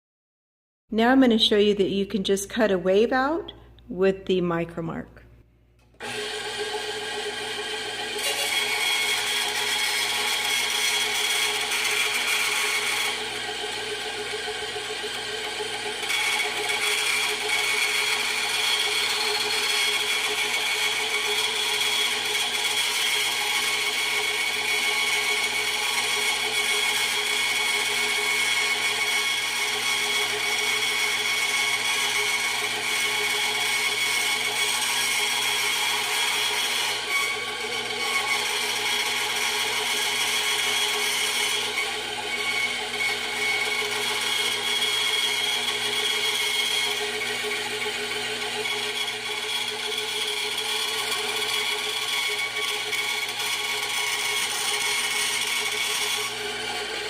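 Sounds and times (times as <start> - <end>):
band saw cutting metal: 6.0 - 57.0.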